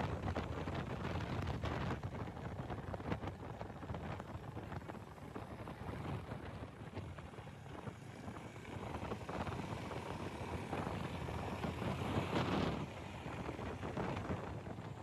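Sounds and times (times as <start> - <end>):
wind and road rumble: 0.0 - 15.0.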